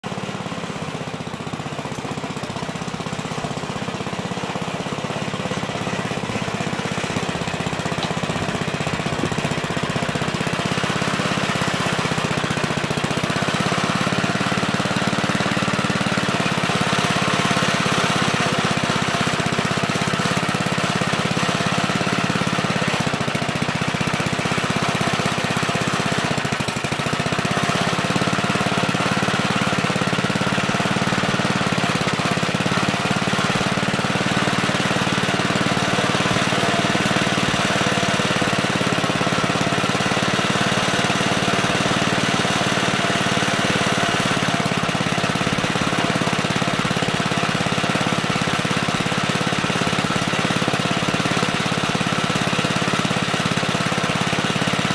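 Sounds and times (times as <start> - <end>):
backhoe engine chattering: 1.3 - 53.6.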